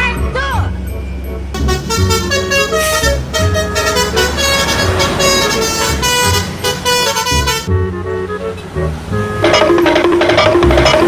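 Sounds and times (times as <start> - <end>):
low thumps: 1.5 - 11.0
multi-tone air horn tune: 1.5 - 11.0.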